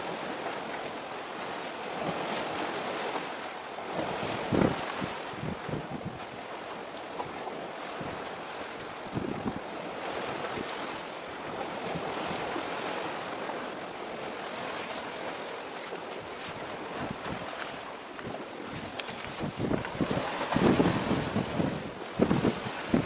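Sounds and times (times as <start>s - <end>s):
choppy sea water: 0.0s - 23.0s
wind on microphone: 3.9s - 23.0s.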